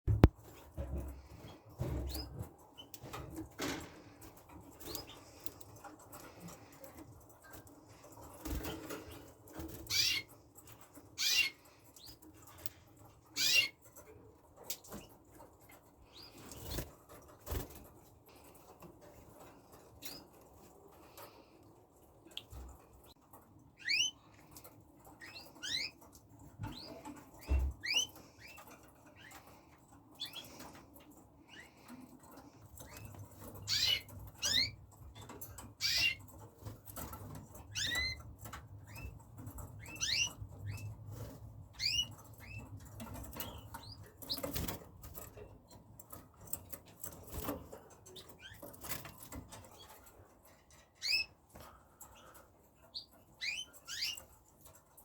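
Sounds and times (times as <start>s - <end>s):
canaries chirping: 0.1s - 55.0s
wings fluttering and rustling: 0.1s - 55.0s.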